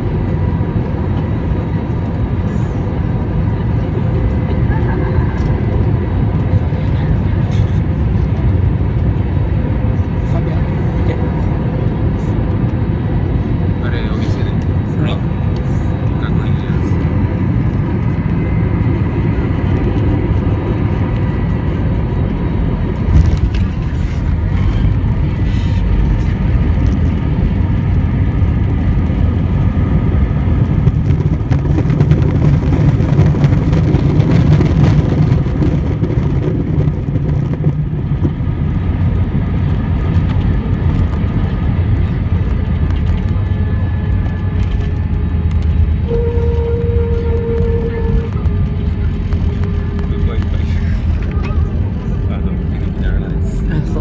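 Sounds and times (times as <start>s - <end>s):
airliner engine roar: 0.0s - 54.0s
runway rollout rumble: 0.0s - 54.0s.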